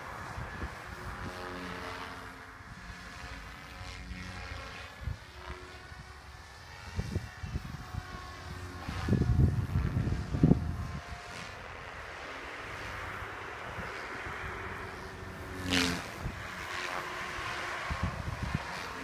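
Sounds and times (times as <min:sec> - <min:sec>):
wind buffeting microphone: 0:00.0 - 0:02.1, 0:02.7 - 0:19.0
rc helicopter rotor hum and whine: 0:00.0 - 0:19.0.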